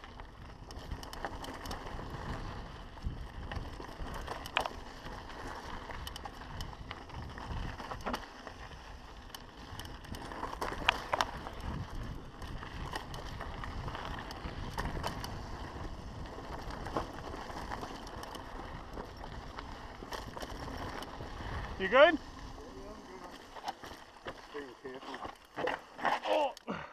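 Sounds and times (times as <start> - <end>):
bike rattling: 0.0 - 26.7
tyres crunching over dirt: 0.0 - 26.7.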